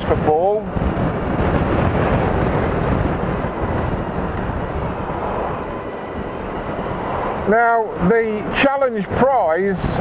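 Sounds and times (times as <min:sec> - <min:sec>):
motorcycle road noise: 0:00.0 - 0:10.0
wind rush on microphone: 0:00.0 - 0:10.0.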